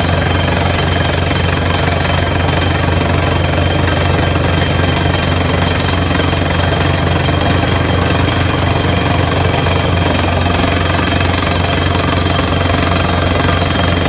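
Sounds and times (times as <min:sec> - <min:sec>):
drill hammering: 0:00.0 - 0:14.0
engine droning: 0:00.0 - 0:14.0.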